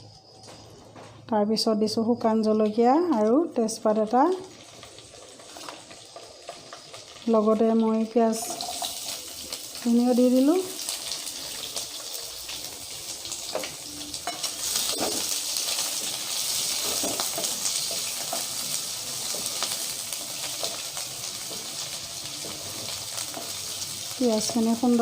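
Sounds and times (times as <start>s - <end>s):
onions sizzling in hot oil: 2.7s - 25.0s.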